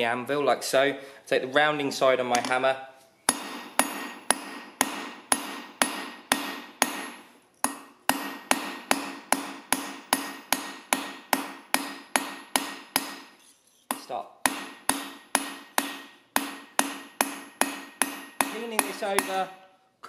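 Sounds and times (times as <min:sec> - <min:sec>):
hammer striking metal on anvil: 0:03.3 - 0:19.6.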